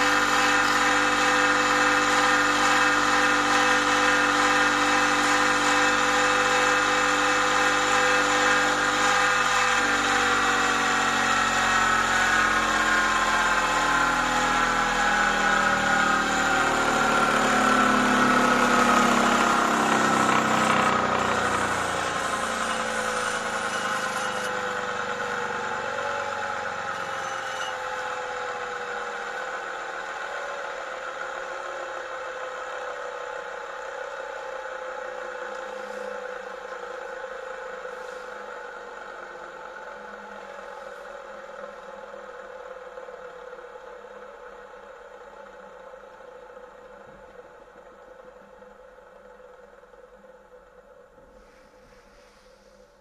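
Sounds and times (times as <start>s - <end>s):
grinder motor humming: 0.0s - 50.3s.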